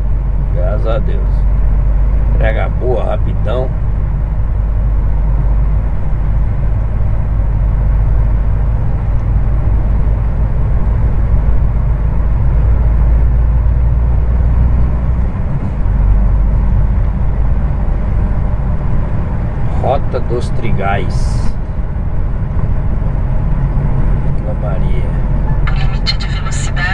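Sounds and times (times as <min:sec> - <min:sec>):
road and tyre noise: 0:00.0 - 0:26.9
truck engine drone: 0:00.0 - 0:26.9.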